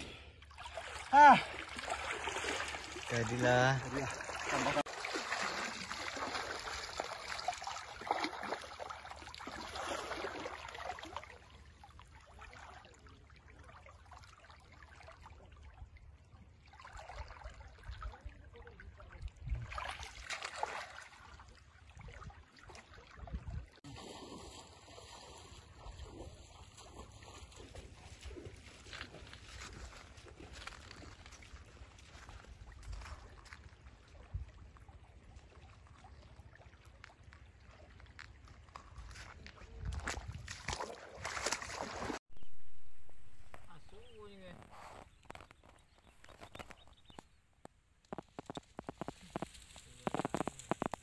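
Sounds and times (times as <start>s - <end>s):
water splashing around wading person: 0.0s - 47.3s, 48.1s - 51.0s.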